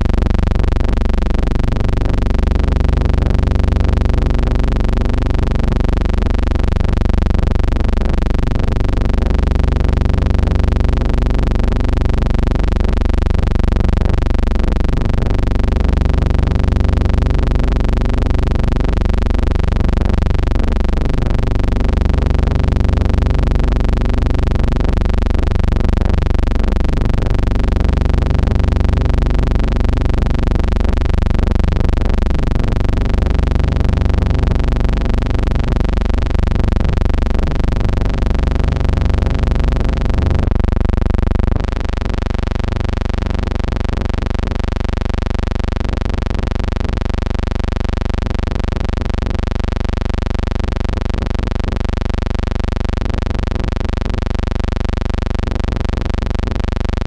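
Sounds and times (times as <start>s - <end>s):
loud buzzing hum: 0.0s - 52.3s.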